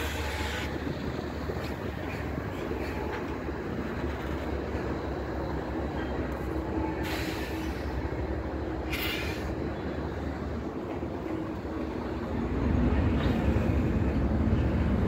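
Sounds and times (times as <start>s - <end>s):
diesel locomotives rumbling: 0.0s - 15.0s
train rail rumble: 0.0s - 15.0s.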